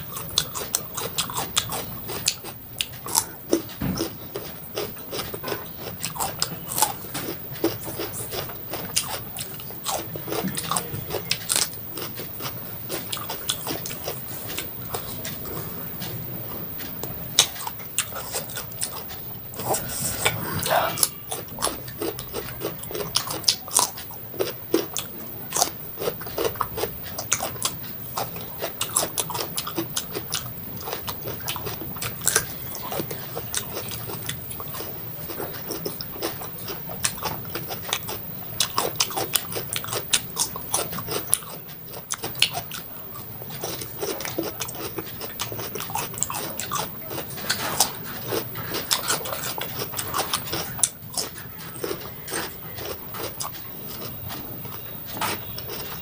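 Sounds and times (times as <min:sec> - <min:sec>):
chewing crunchy cucumber: 0:00.0 - 0:56.0.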